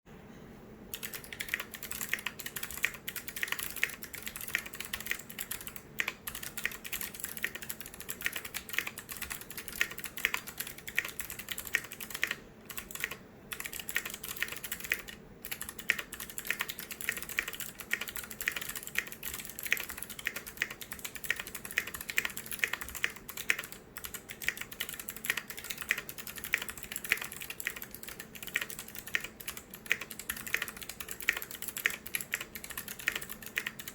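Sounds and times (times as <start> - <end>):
fast typing on clicky keyboard: 0.9 - 33.9.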